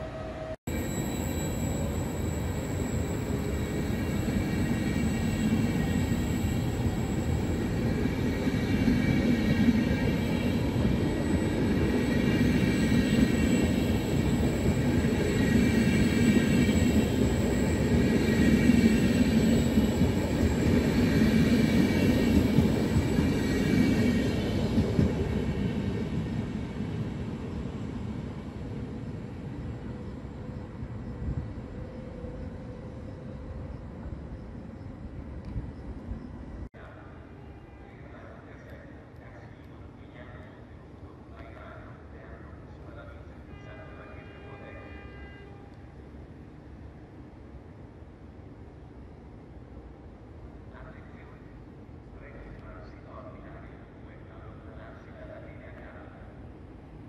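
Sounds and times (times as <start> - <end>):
faint high whine: 0.0 - 46.2.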